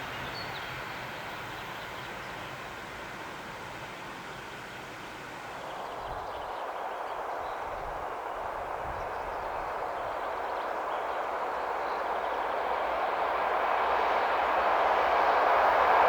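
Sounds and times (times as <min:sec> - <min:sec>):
train approaching on track: 0:00.0 - 0:16.0.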